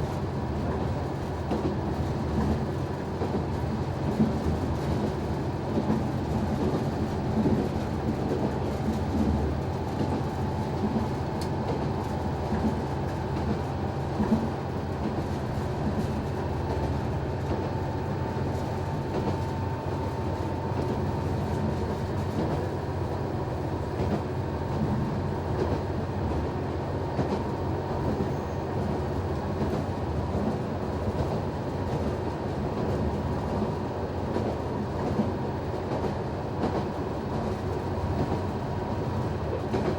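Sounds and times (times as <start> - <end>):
railcar engine drone: 0.0 - 39.9.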